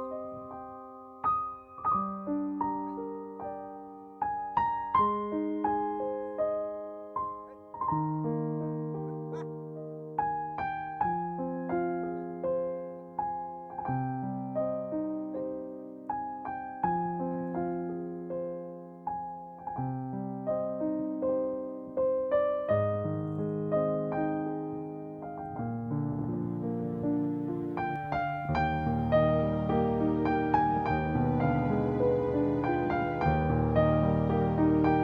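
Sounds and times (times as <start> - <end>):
slow gentle piano music: 0.0 - 35.0.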